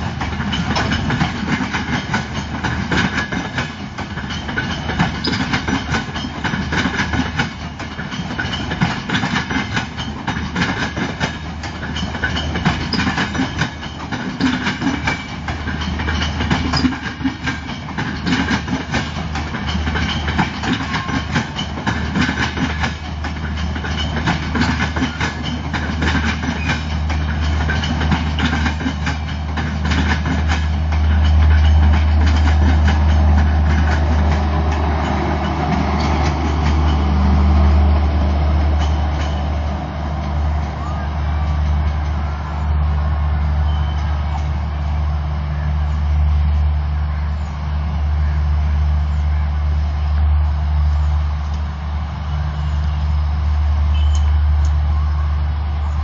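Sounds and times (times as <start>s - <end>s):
train wheels clattering over joints: 0.0s - 44.8s.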